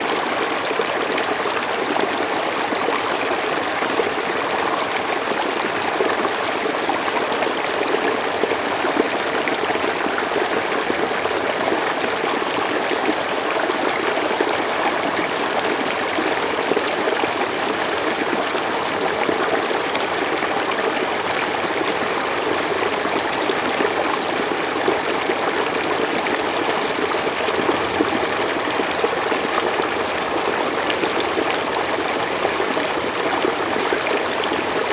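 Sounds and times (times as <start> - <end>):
river water flowing over rocks: 0.0 - 34.9.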